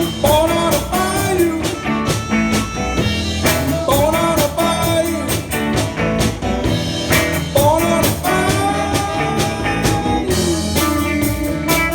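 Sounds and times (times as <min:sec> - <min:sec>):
bass: 0:00.0 - 0:11.9
electric guitar bending notes: 0:00.0 - 0:11.9
steady drum beat: 0:00.0 - 0:11.9.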